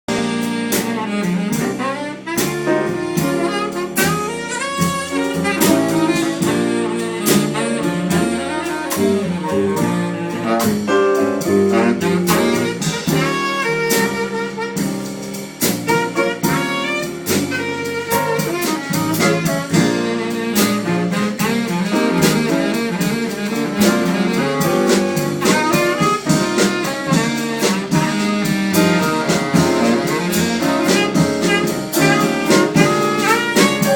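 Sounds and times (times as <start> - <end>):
drum hits: 0.1 - 33.9
saxophone playing jazz: 0.1 - 33.9.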